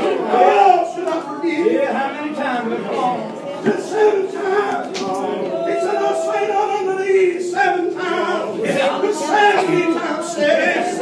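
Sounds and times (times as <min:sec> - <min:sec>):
unaccompanied gospel singing: 0:00.0 - 0:11.0.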